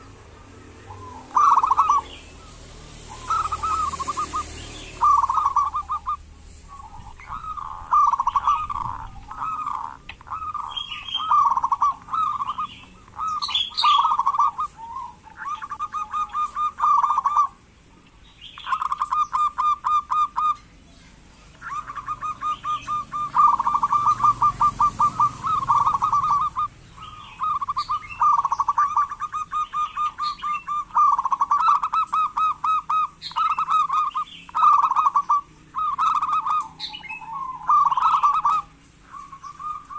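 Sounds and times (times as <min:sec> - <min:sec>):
dove trilled cooing: 0:00.0 - 0:39.9
small birds chirping: 0:00.0 - 0:39.9.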